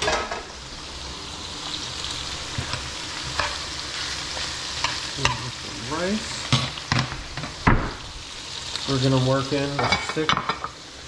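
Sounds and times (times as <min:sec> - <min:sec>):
rice sizzling in a frying pan: 0:00.0 - 0:11.0.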